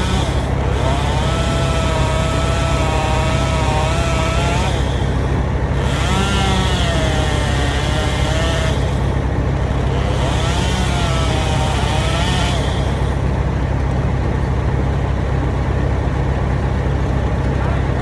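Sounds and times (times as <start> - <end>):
large engine running: 0.0 - 18.0.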